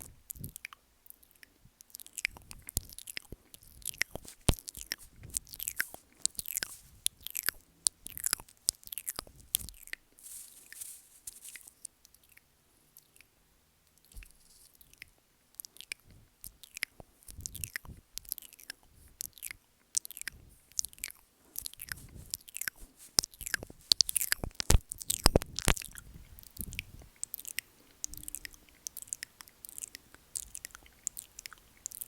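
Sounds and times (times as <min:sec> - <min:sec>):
wet mouth clicks and smacks: 0:00.0 - 0:10.0, 0:13.9 - 0:32.0.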